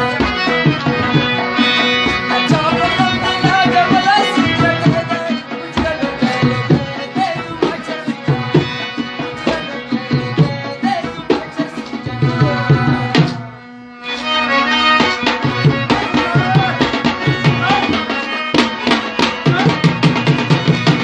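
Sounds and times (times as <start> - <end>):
hand drum playing: 0.0 - 13.6, 15.0 - 21.0
harmonium chord: 0.0 - 21.0.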